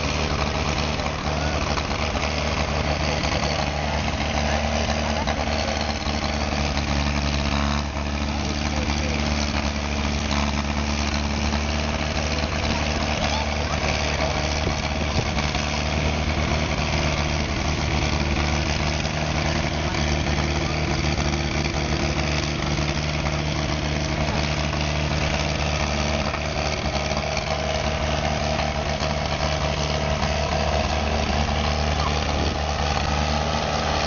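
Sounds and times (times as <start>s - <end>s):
grader engine running: 0.0s - 34.0s.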